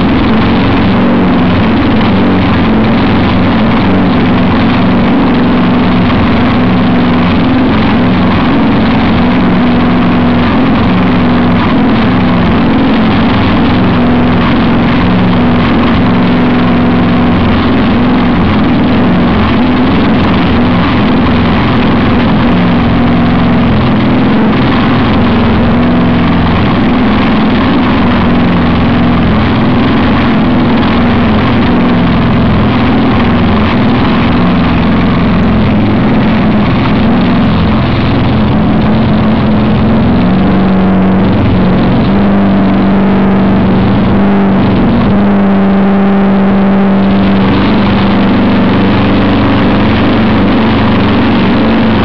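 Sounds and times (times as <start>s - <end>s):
boat motor running loudly: 0.0s - 52.0s.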